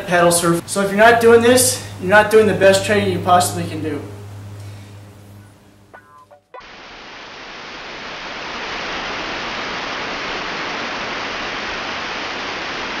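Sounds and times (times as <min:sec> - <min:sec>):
white noise hiss: 0:00.0 - 0:13.0.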